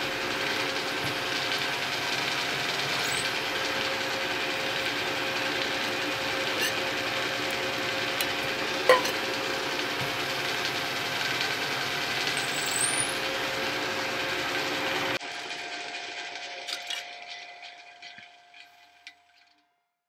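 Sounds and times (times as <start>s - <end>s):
drilling machine humming: 0.0s - 18.3s.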